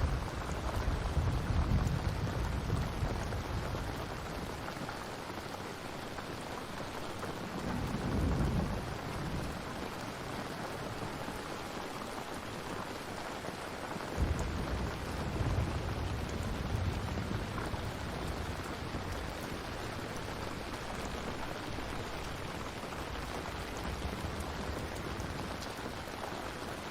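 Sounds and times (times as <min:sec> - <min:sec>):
low rumbles of thunder: 0:00.0 - 0:05.0, 0:07.2 - 0:11.7, 0:14.1 - 0:26.7
steady rain: 0:00.0 - 0:26.9.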